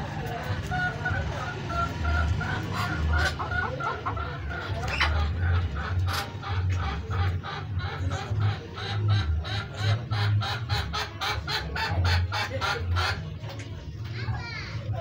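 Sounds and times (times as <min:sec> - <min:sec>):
chicken clucking: 0:00.0 - 0:14.2.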